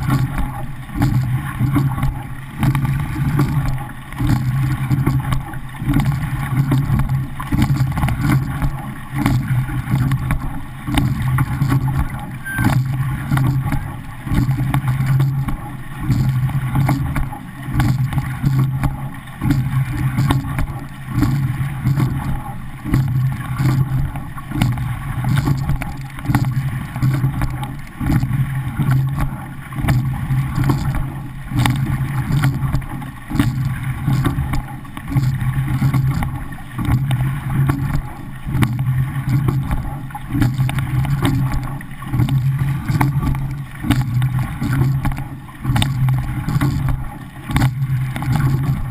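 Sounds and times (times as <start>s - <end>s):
water rushing along boat hull: 0.0s - 48.9s.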